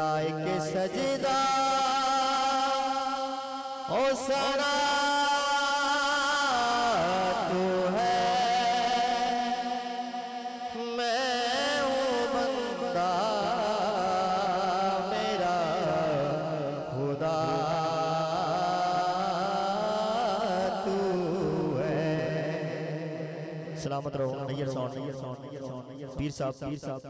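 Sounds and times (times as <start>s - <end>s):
man singing into microphone: 0.0s - 27.0s.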